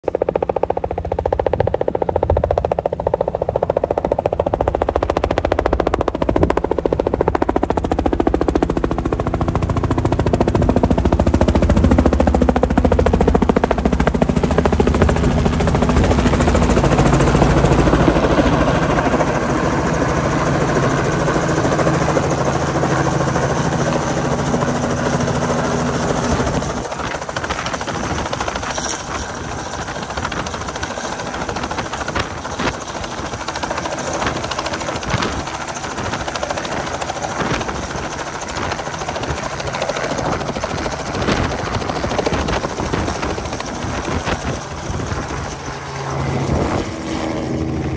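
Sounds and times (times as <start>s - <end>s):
helicopter engine: 0.0s - 47.9s
helicopter rotor chopping: 0.0s - 47.9s.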